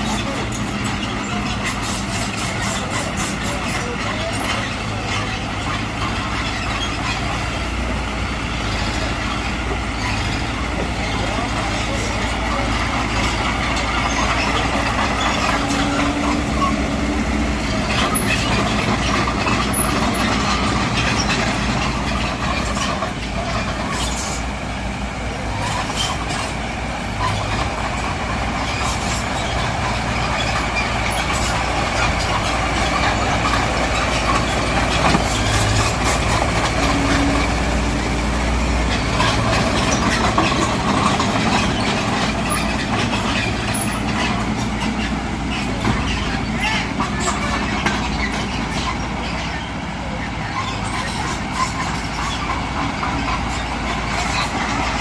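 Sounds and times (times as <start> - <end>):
bulldozer diesel engine running: 0.0 - 55.0
metallic track clanks: 0.0 - 55.0.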